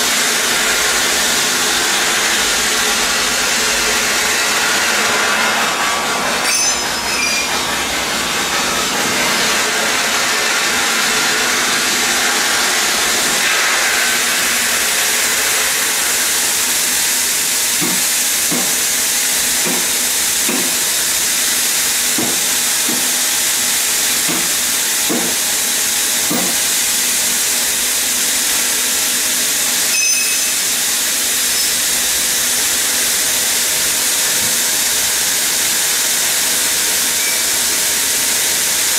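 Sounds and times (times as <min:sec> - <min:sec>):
stone saw hissing grind: 0:00.0 - 0:38.9.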